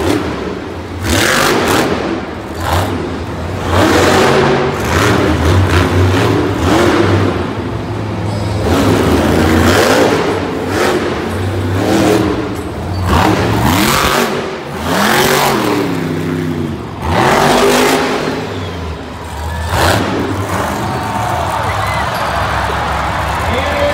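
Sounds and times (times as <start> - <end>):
monster truck engine revving: 0.0 - 23.9.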